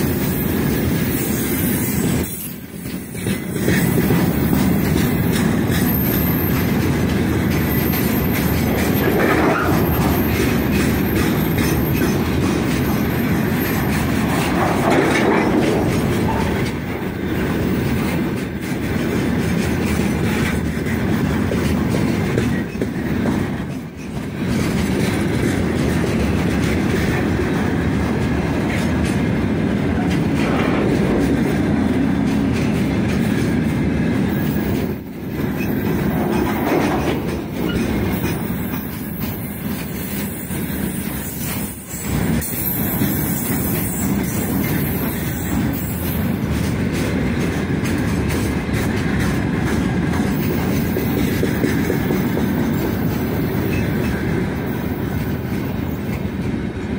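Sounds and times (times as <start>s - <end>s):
train wagons rolling rumble: 0.0s - 56.9s
wheels clicking over rails: 2.2s - 56.6s.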